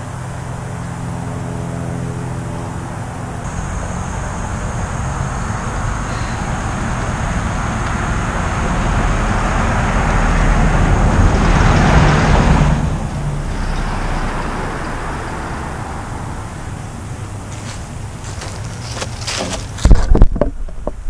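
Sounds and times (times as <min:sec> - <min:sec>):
car driving past: 0:00.0 - 0:20.0.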